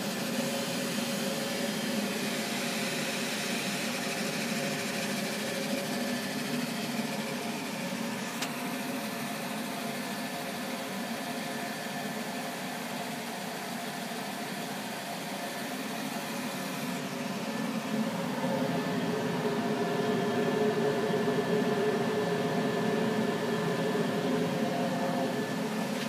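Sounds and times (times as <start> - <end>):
machine whirring hum: 0.0 - 26.0.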